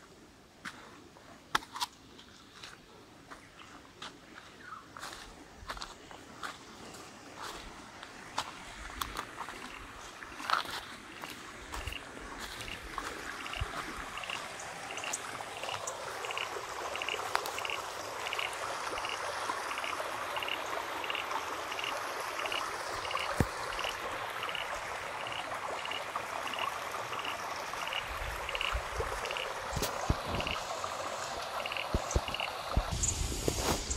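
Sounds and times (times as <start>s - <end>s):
floodwater running: 5.0s - 33.9s.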